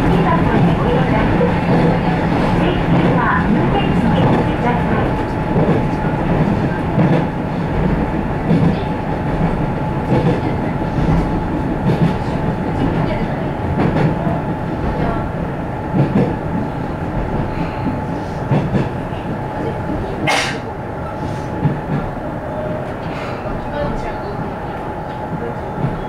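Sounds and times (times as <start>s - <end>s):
railcar engine rumble: 0.0s - 26.0s.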